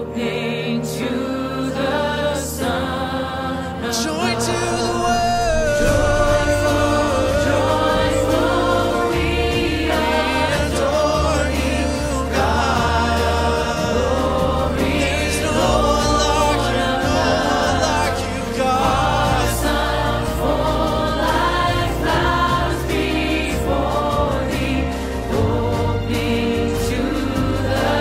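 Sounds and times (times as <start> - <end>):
choir singing church music: 0.0 - 28.0
held low accompaniment notes: 4.1 - 28.0.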